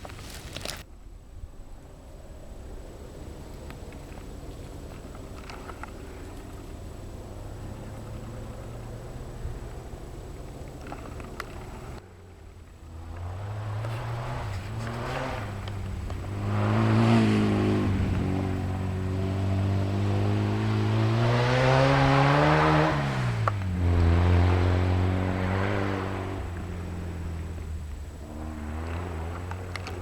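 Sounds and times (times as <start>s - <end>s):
vehicle engine running: 1.7s - 30.0s.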